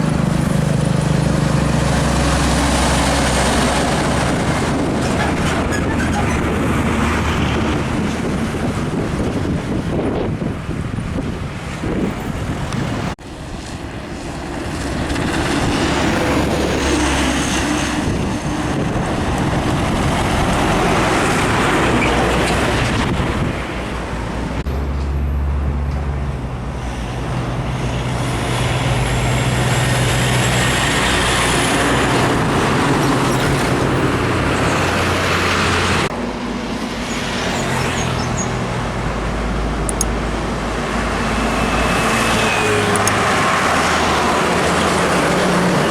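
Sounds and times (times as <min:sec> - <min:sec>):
diesel trucks passing: 0:00.0 - 0:45.9
tyre and traffic noise: 0:00.0 - 0:45.9.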